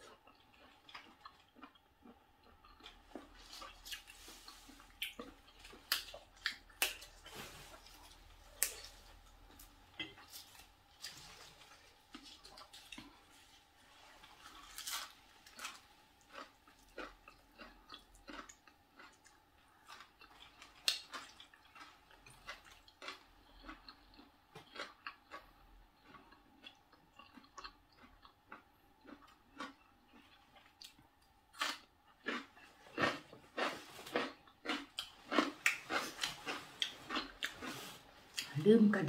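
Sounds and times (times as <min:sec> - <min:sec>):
person chewing crunchy greens: 0:00.0 - 0:38.8.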